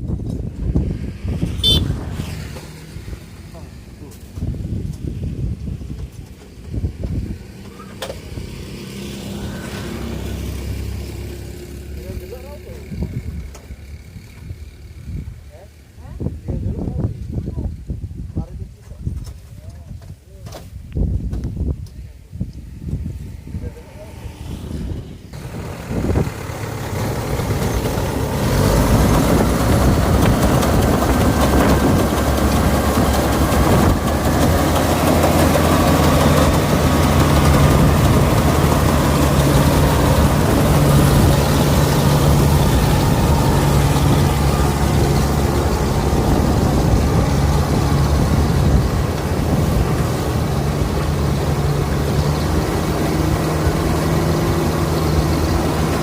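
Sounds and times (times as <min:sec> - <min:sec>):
combine harvester engine running: 0:00.0 - 0:17.8, 0:21.3 - 0:56.0.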